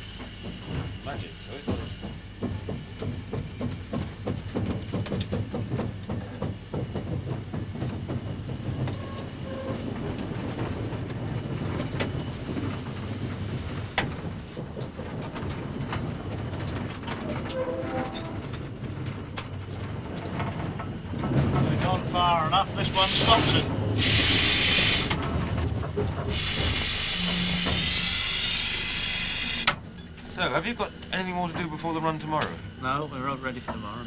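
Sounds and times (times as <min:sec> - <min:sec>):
locomotive clanks: 0:00.0 - 0:34.0
steam locomotive low rumble: 0:00.0 - 0:34.0
wheels clicking over rail joints: 0:00.0 - 0:34.0.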